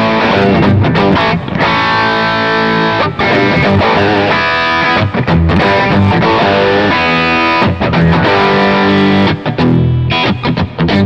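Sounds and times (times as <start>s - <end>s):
electric guitar chords ringing: 0.0s - 11.0s.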